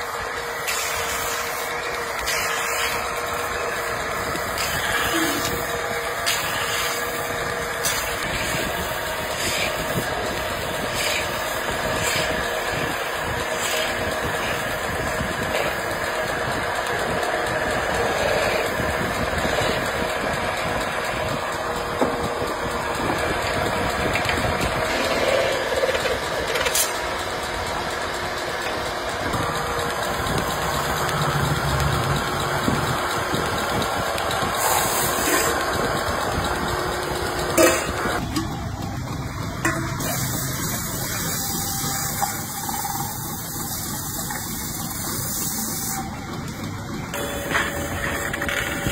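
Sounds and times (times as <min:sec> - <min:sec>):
metal-spinning lathe running: 0:00.0 - 0:48.9.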